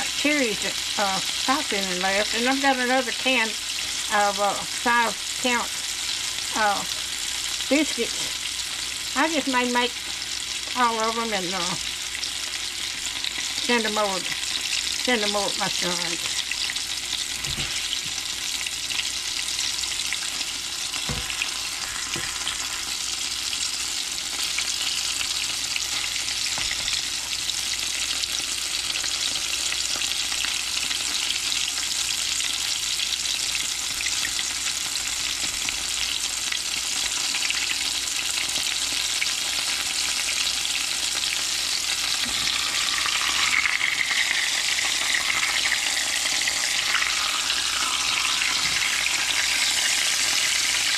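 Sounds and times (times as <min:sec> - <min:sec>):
oil sizzling in a skillet: 0:00.0 - 0:50.9.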